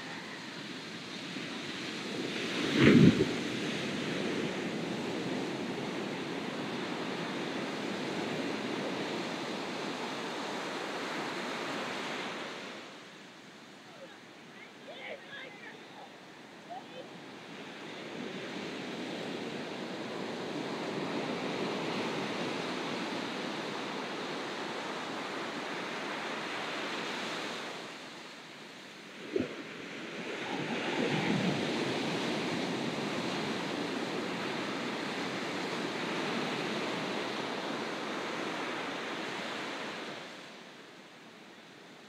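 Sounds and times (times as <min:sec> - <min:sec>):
ocean waves breaking: 0:00.0 - 0:40.5.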